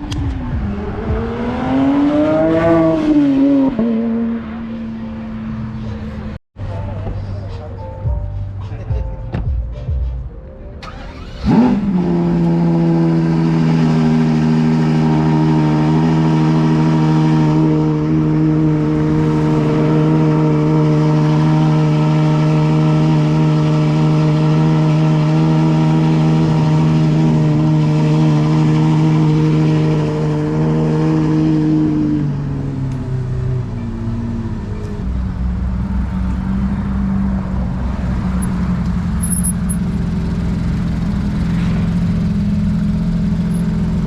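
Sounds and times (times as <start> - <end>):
car engine droning: 0.0 - 7.8, 10.7 - 44.0.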